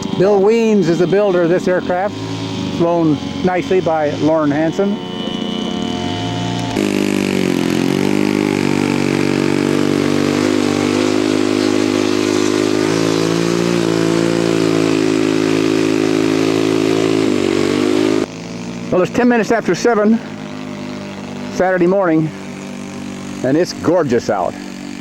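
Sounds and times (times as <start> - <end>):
model airplane engine running: 0.0 - 25.0.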